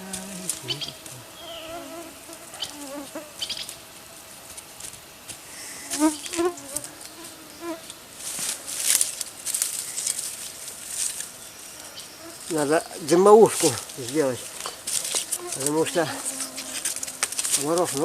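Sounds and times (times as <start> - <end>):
insects buzzing: 0.0 - 18.0
light crackles and rustles: 3.6 - 18.0.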